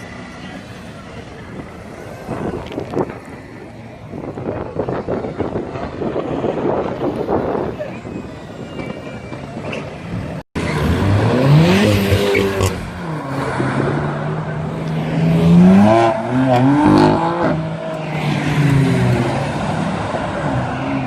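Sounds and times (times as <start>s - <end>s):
car engines revving and accelerating: 0.0s - 21.0s.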